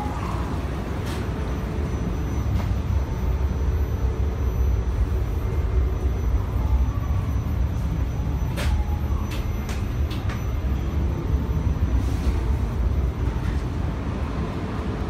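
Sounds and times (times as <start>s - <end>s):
low rumble and hum of train: 0.0s - 15.0s.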